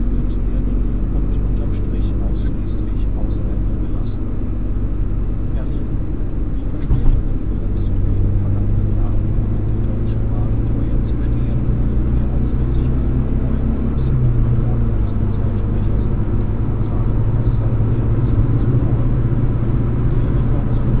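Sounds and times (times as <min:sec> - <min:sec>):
car driving on motorway: 0:00.0 - 0:21.0.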